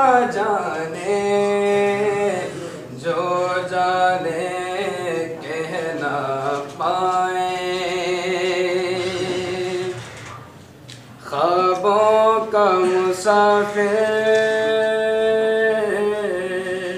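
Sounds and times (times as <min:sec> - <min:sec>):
man singing unaccompanied: 0:00.0 - 0:10.1, 0:11.2 - 0:16.9.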